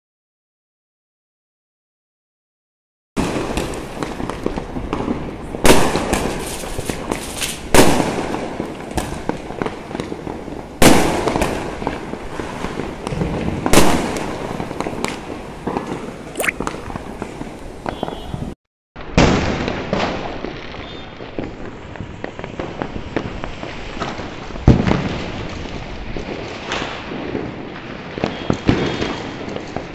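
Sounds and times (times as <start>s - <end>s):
crackling firework pops: 3.2s - 18.2s, 19.0s - 29.9s
loud firework bangs: 3.2s - 18.3s, 19.0s - 29.9s.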